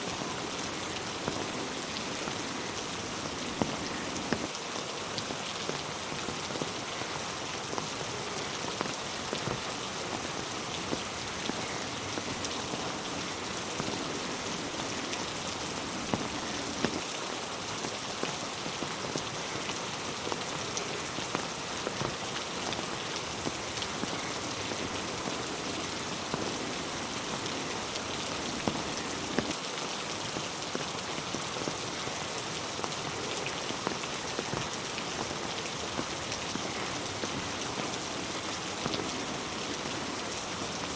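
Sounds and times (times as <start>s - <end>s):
rain hiss: 0.0s - 40.9s
raindrops ticking: 0.0s - 40.9s.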